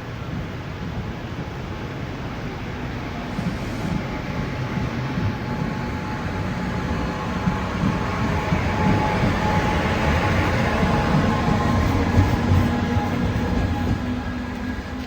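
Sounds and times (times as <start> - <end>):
train rumbling with faint whine: 0.0 - 15.0.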